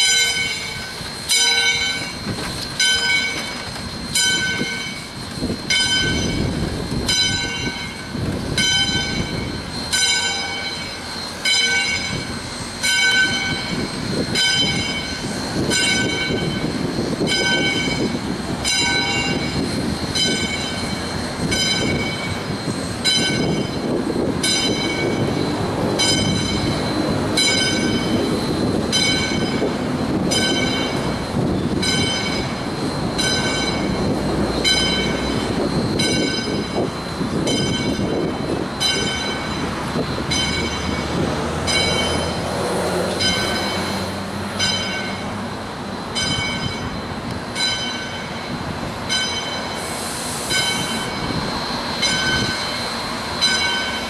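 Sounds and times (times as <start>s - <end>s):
locomotive rumble and hiss: 0.0s - 54.0s
steam locomotive bell ringing: 0.0s - 54.0s.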